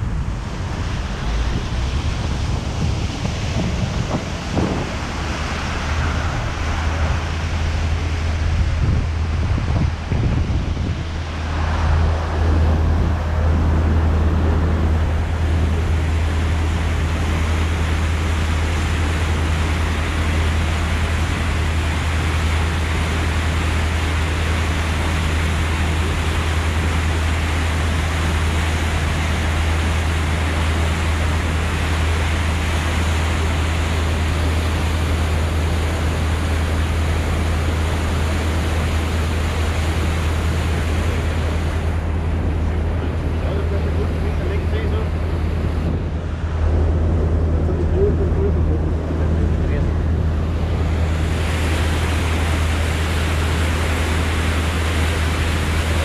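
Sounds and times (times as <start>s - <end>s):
ferry engine droning: 0.0s - 56.0s
water rushing in wake: 0.0s - 56.0s.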